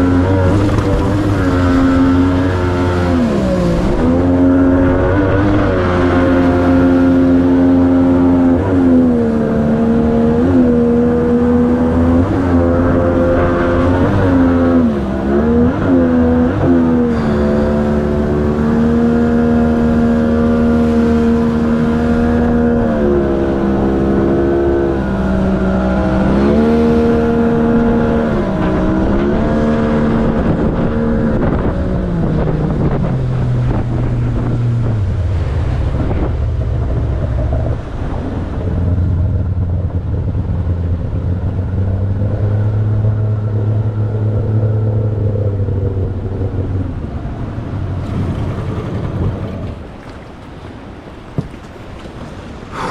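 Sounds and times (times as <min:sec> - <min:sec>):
outboard boat engine running hard: 0:00.0 - 0:52.9.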